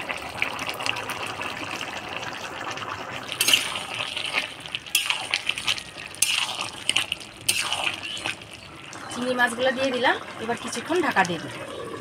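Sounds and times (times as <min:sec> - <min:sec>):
curry bubbling with hiss: 0:00.0 - 0:12.0.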